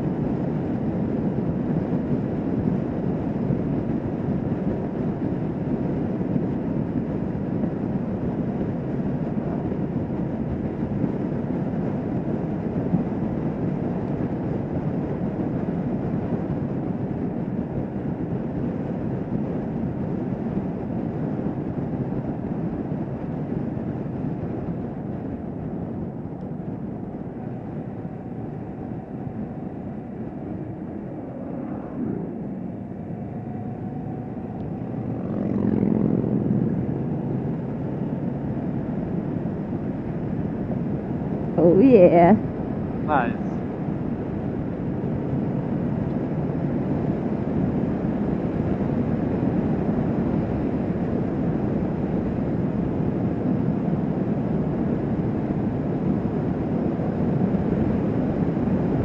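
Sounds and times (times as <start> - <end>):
motorcycle engine cruising: 0.0 - 59.0
road and wind noise: 0.0 - 59.0.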